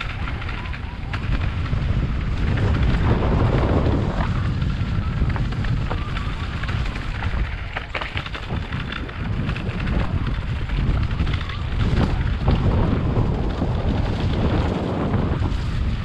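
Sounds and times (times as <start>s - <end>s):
crunching on stony dirt trail: 0.0s - 16.0s
wind buffeting microphone: 0.0s - 16.0s.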